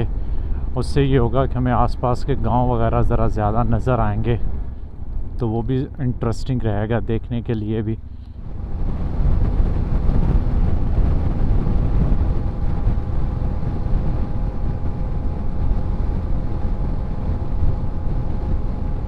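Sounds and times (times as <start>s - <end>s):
faint steady whine: 0.0s - 19.0s
wind noise on microphone: 0.0s - 19.0s.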